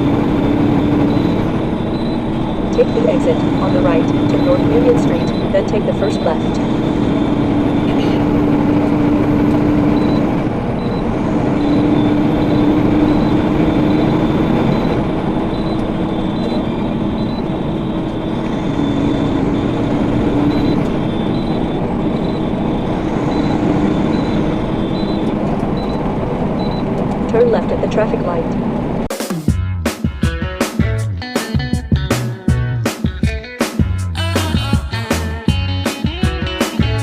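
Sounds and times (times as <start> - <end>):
truck engine and road noise: 0.0 - 32.9.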